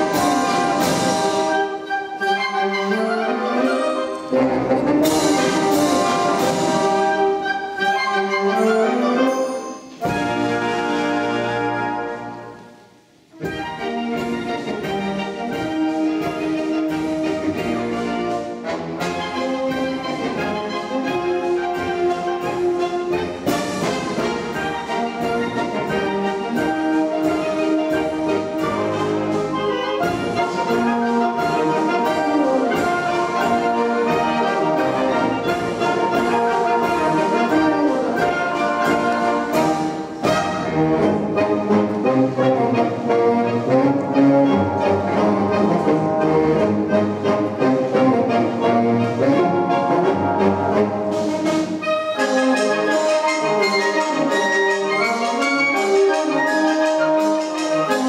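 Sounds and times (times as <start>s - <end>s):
wind band playing: 0.0s - 58.0s.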